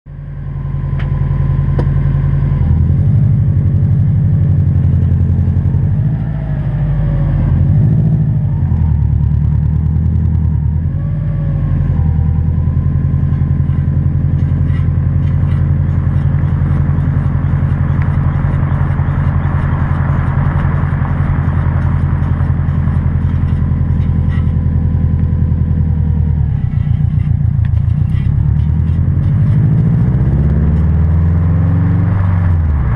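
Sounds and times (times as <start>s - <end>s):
car driving drone: 0.1s - 32.9s
wheel bearing grinding: 2.6s - 32.9s.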